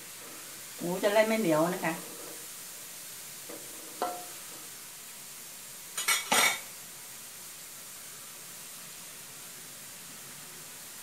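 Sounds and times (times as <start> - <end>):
simmering pan hiss: 0.0 - 11.0.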